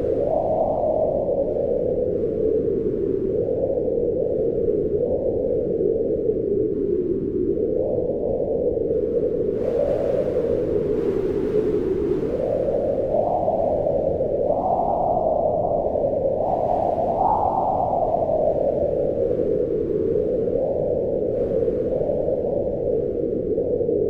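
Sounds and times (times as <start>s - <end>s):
wind blowing in gusts: 0.0s - 24.0s.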